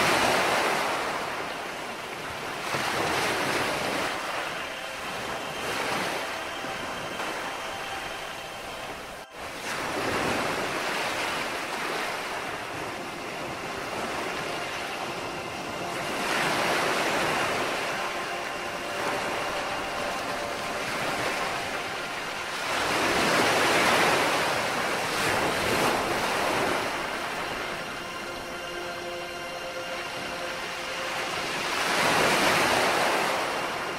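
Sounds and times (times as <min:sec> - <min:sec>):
waves washing onto beach: 0:00.0 - 0:33.9.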